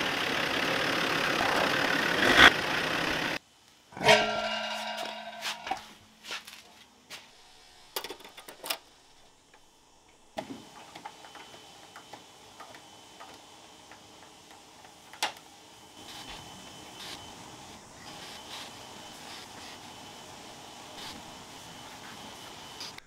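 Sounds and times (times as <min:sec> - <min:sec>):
steady background hum: 0:01.4 - 0:23.0.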